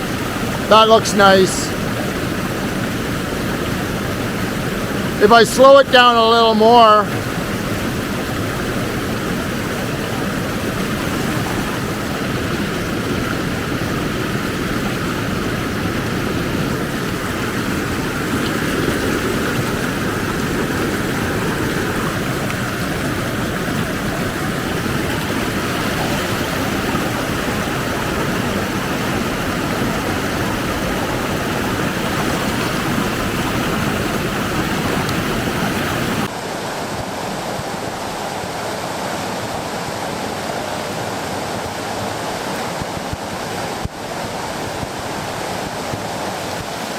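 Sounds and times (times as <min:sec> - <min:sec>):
river rapids roaring: 0:00.0 - 0:46.9.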